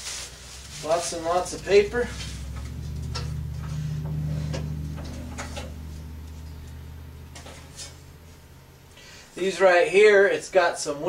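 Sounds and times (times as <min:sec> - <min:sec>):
steady low hum: 0:00.6 - 0:10.0.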